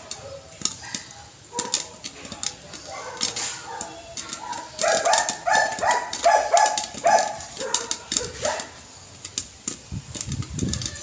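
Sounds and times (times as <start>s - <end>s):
corn kernels popping in pot: 0.0s - 11.0s.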